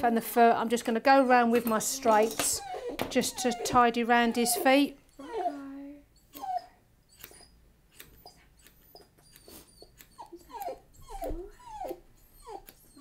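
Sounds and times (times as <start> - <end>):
puppy whimpering: 1.1 - 13.0.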